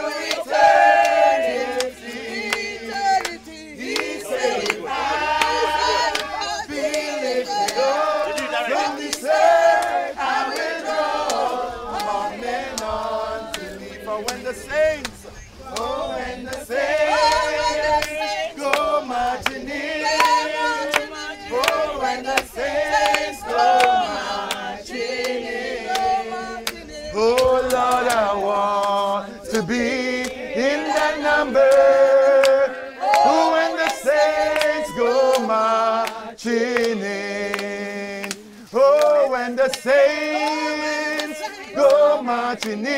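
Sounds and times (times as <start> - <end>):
group singing a hymn: 0.0 - 42.9.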